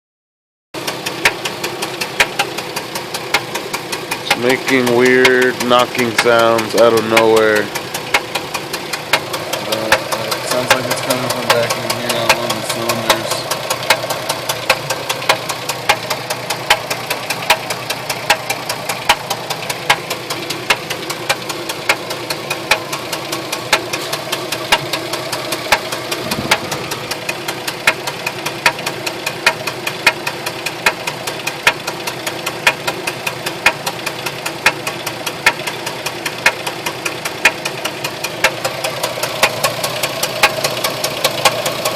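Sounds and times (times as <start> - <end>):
car engine idling: 0.8 - 41.9
engine knocking: 0.8 - 41.9.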